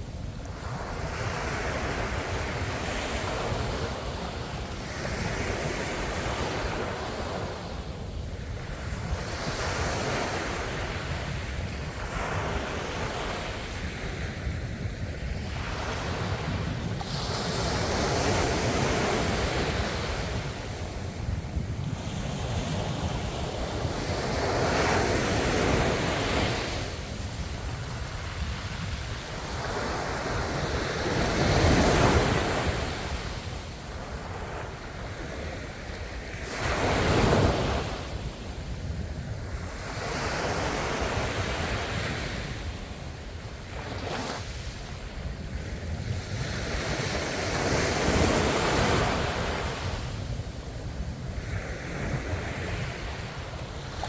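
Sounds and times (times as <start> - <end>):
ocean waves breaking on shore: 0.0 - 54.0
wind on microphone rumble: 0.0 - 54.0.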